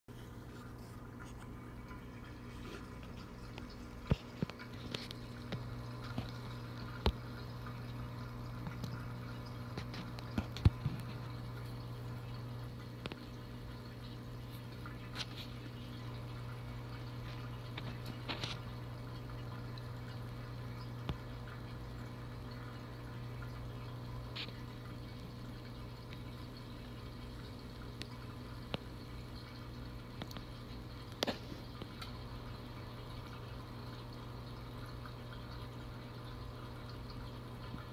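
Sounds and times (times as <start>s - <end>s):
aquarium low hum: 0.1s - 37.9s
water trickling and bubbling: 0.1s - 37.9s.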